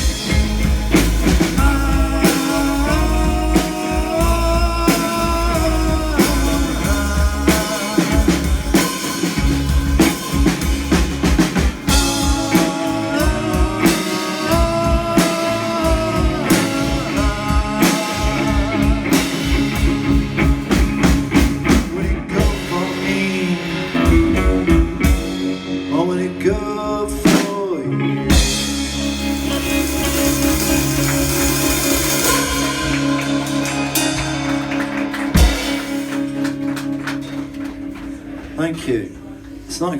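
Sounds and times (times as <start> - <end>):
drum kit steady beat: 0.0 - 27.6, 28.3 - 38.6
rock band playing: 0.0 - 39.7.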